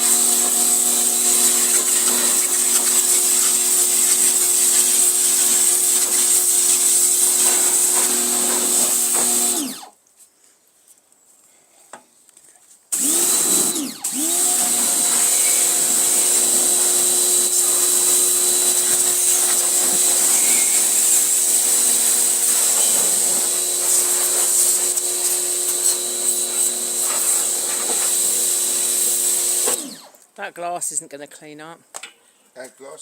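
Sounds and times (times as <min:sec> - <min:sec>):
water spray hissing: 0:00.0 - 0:09.8, 0:13.0 - 0:29.9
pressure washer motor running: 0:00.0 - 0:09.9, 0:13.0 - 0:30.1.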